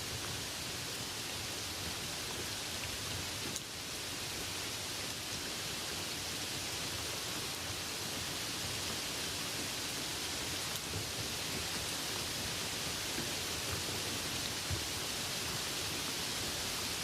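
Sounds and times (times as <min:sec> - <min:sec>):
light rain falling: 0:00.0 - 0:17.0.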